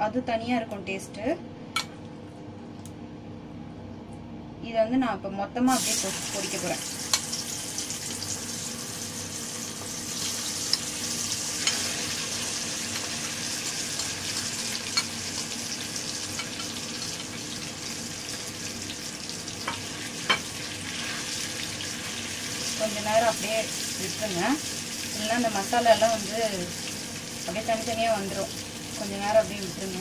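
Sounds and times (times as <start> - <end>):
prawns sizzling in oil: 5.7 - 30.0.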